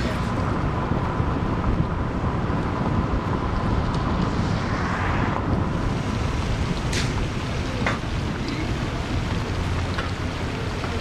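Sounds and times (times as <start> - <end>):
car driving rumble: 0.0 - 11.0
wind buffeting microphone: 0.0 - 11.0.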